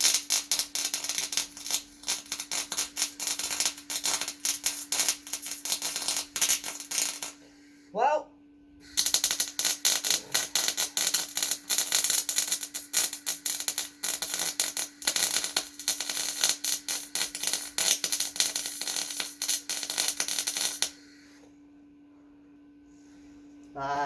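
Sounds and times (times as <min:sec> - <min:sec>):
welding arc crackling: 0:00.0 - 0:07.4, 0:08.8 - 0:21.0
steady low hum: 0:00.0 - 0:24.0.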